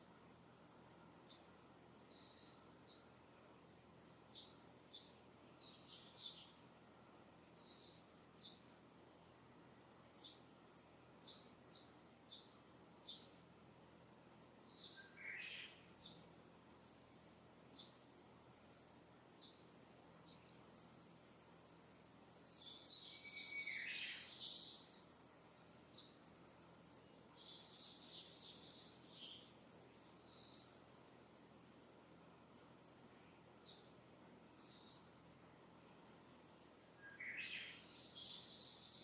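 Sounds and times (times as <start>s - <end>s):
distant songbirds chirping: 0.0s - 39.0s.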